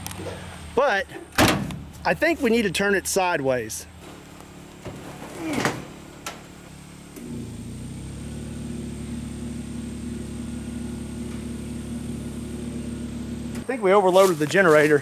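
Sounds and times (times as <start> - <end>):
generator engine hum: 0.0 - 15.0.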